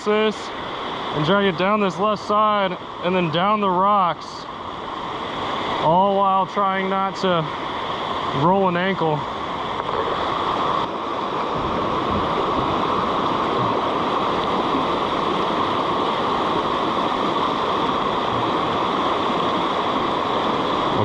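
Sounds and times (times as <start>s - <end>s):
water rushing over waterfall: 0.0s - 21.0s.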